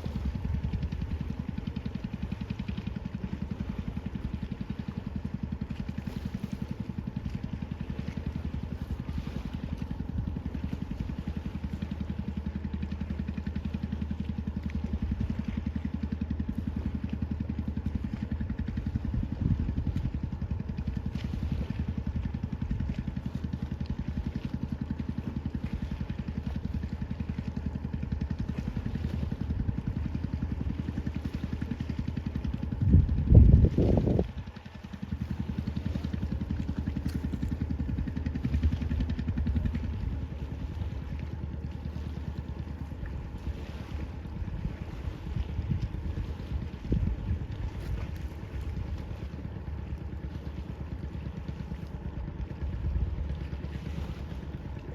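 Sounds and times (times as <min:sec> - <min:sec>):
engine running at low revs: 0:00.0 - 0:54.9.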